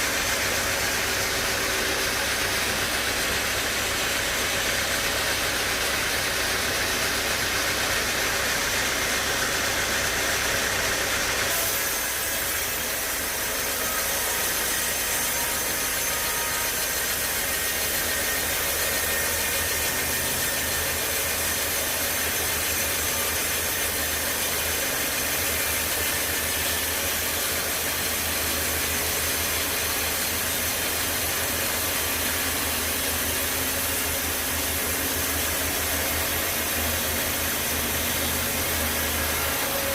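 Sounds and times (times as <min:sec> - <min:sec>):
saw hissing through wood: 0:00.0 - 0:39.9
sawmill machinery running: 0:00.0 - 0:39.9.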